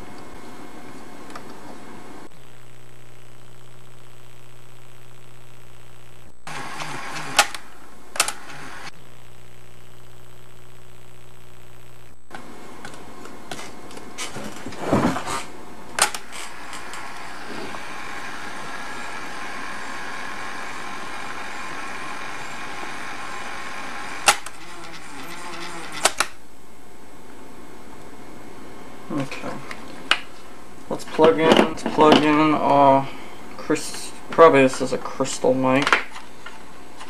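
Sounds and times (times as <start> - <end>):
tape hiss with faint hum: 0.0 - 37.0.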